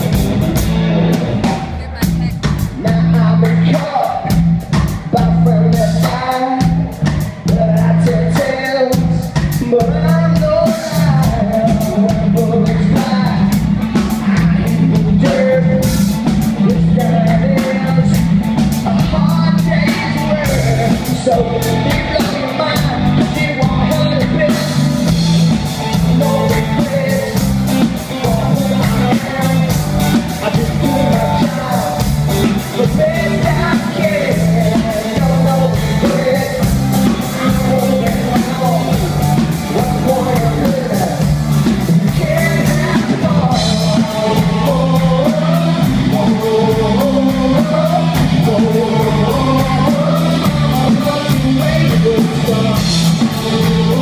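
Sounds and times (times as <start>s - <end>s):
drum kit: 0.0s - 54.0s
electric guitar: 0.0s - 54.0s
man singing: 0.0s - 54.0s.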